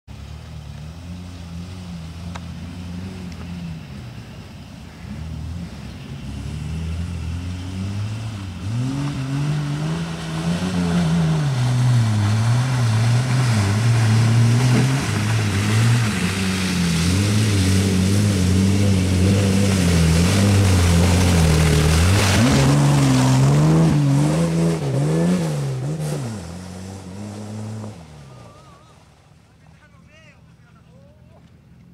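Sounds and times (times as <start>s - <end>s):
car engine revving: 0.1s - 29.2s.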